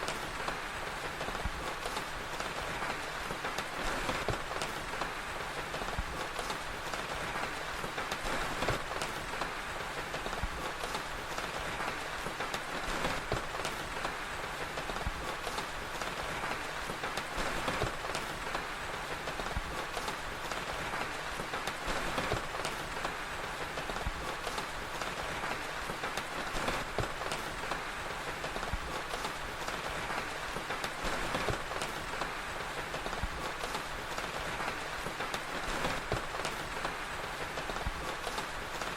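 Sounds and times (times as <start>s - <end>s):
rain hiss: 0.0s - 38.9s
sharp crackles: 0.0s - 38.9s.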